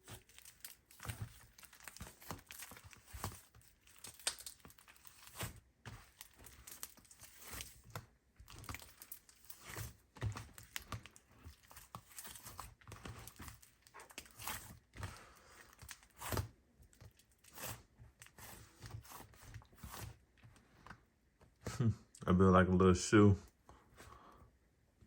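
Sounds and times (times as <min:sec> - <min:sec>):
paper crinkling: 0:00.0 - 0:21.0
play dough squishing: 0:00.0 - 0:21.8.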